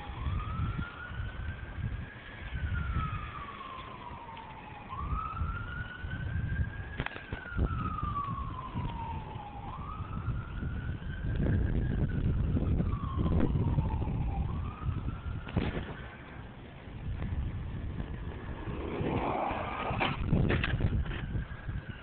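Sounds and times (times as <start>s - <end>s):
siren wailing: 0.0s - 22.0s
wind buffeting microphone: 0.0s - 22.0s.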